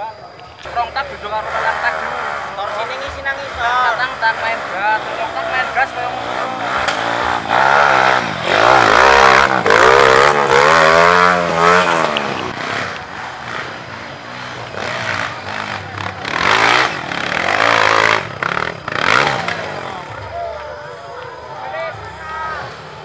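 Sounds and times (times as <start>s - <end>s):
dirt bike engine revving: 0.6s - 20.4s.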